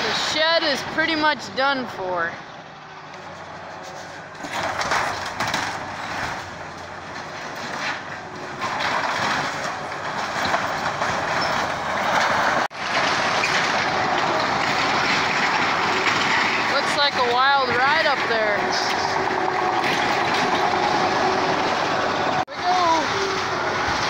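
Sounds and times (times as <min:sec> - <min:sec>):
bulldozer tracks clattering: 0:00.0 - 0:24.0
sheet metal scraping and crumpling: 0:03.1 - 0:24.0.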